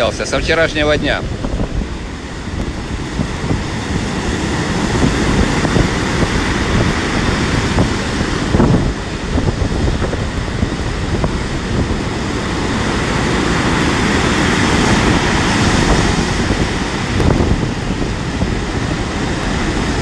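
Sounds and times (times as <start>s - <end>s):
storm surf breaking on shingle: 0.0s - 20.0s
wind buffeting microphone: 0.0s - 20.0s.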